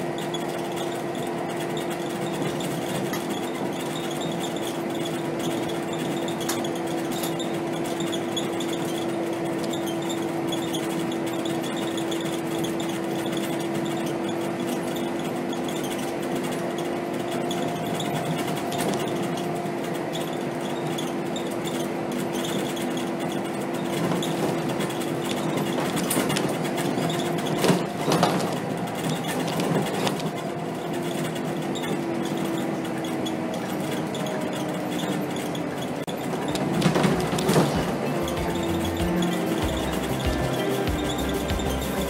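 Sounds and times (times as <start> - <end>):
bus engine hum: 0.0 - 42.0
road noise: 0.0 - 42.0
sharp rattles and knocks: 0.0 - 42.0.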